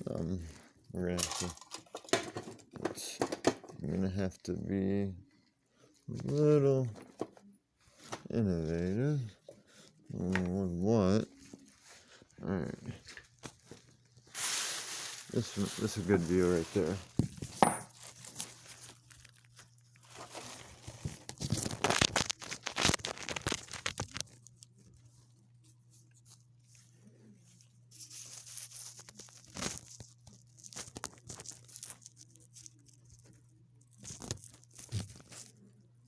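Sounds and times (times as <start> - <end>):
handling rustling and scraping: 0.1 - 3.8, 5.2 - 35.8.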